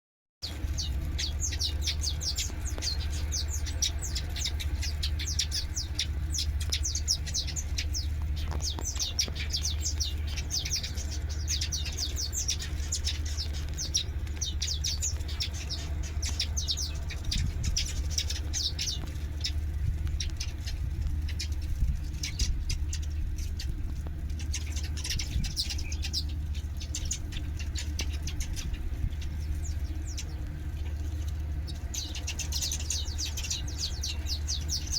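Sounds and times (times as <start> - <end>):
small birds chirping: 0.4 - 34.9
steady low hum: 0.4 - 34.9.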